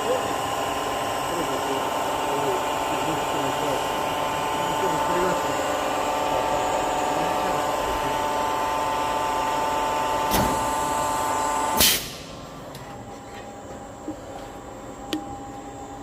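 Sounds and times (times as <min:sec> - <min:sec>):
industrial machinery humming: 0:00.0 - 0:16.0.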